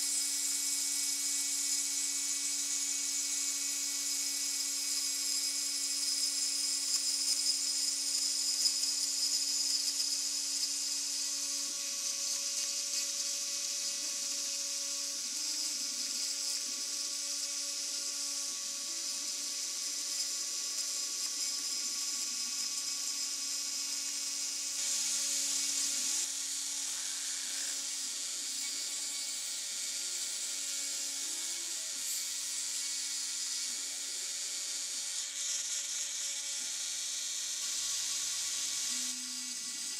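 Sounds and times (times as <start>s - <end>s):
rotary tool whining while cutting: 0.0s - 39.9s.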